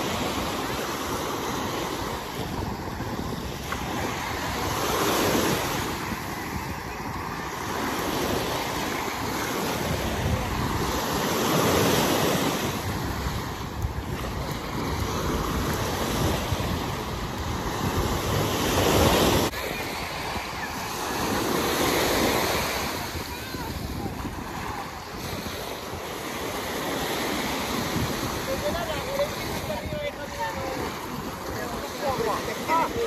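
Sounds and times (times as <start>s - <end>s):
small waves breaking on shore: 0.0s - 33.0s
wind rumbling on microphone: 0.0s - 33.0s.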